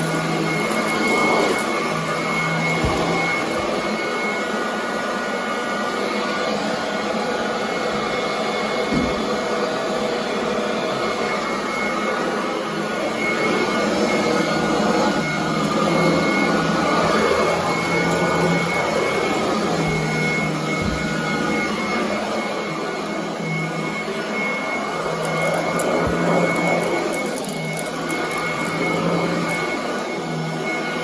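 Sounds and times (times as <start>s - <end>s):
vacuum cleaner on carpet: 0.0s - 31.0s.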